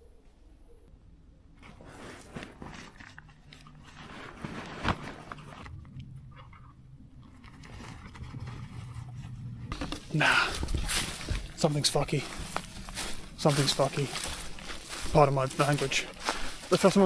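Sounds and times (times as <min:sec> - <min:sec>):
crunching crackling rustle: 0:01.5 - 0:17.0.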